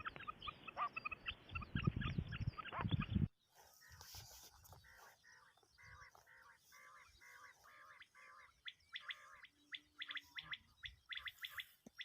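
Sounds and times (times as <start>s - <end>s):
quail calling: 0.0s - 12.0s.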